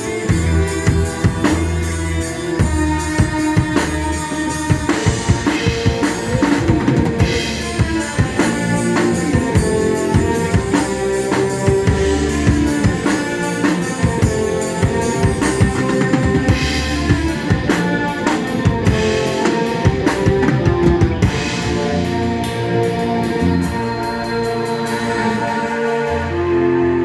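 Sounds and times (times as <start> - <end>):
drum kit beat: 0.0 - 26.0
bass: 0.0 - 27.0
sustained keyboard chords: 0.0 - 27.0.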